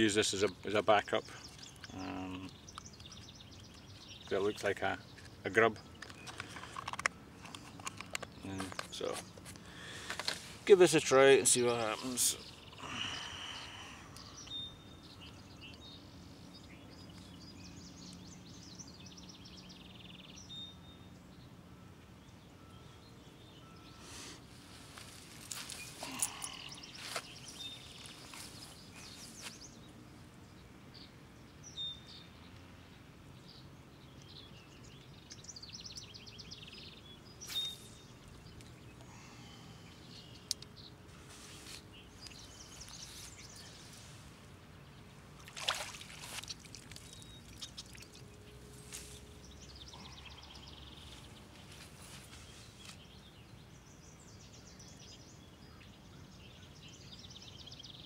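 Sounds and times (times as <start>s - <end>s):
birds calling: 0.0s - 21.6s, 22.2s - 58.0s.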